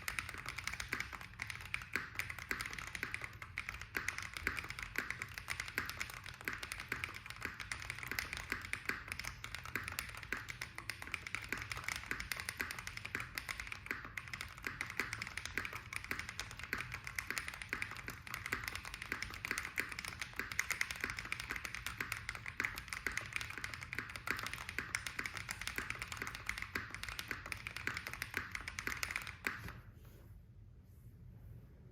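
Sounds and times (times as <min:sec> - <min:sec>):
mechanical keyboard typing: 0:00.0 - 0:29.8.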